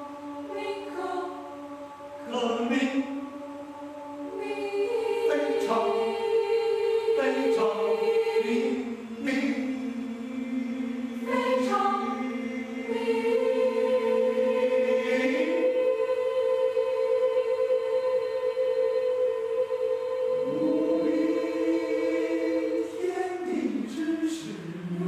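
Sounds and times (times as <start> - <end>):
mixed choir singing a cappella: 0.0 - 25.0.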